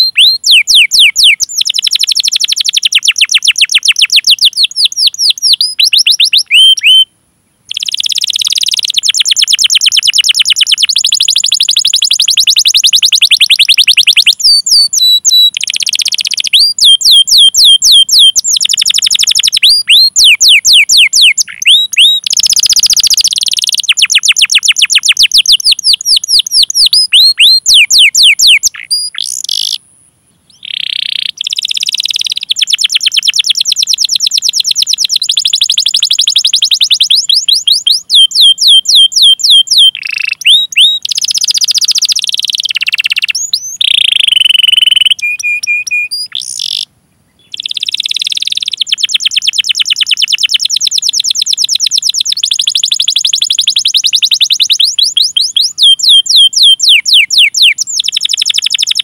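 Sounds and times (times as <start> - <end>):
canary singing: 0.0 - 7.1, 7.7 - 59.0.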